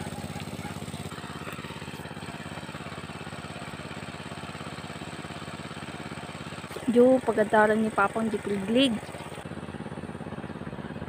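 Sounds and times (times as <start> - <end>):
hand tractor engine running: 0.0 - 9.5.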